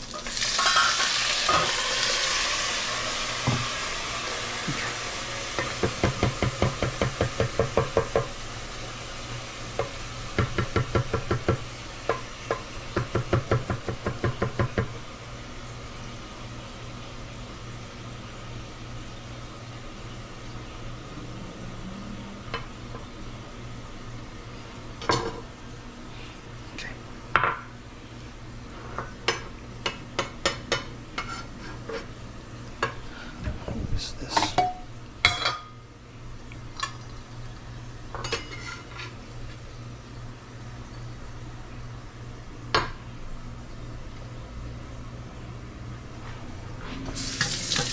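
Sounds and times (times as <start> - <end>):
steady low hum: 7.8 - 47.1.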